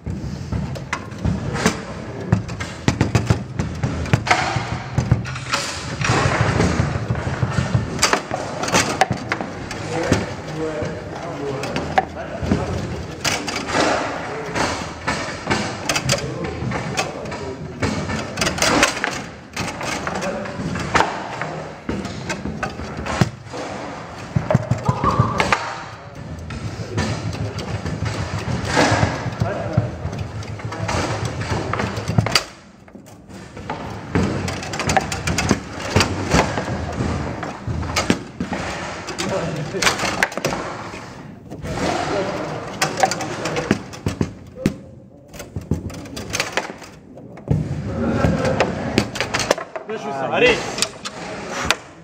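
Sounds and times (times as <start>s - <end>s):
foosball ball knocks and clacks: 0.0s - 52.0s
foosball rods banging and rattling: 0.0s - 52.0s.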